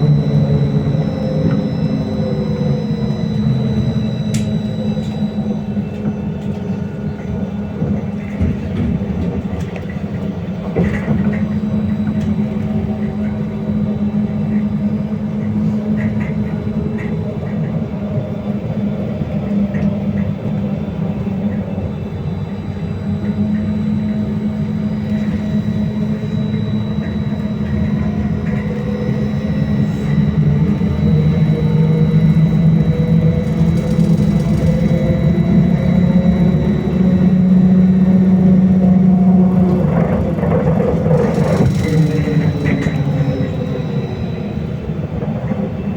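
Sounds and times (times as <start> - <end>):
thin high whine: 0.0 - 7.5, 10.5 - 18.6, 20.8 - 45.9
trolleybus electric hum: 0.0 - 45.9.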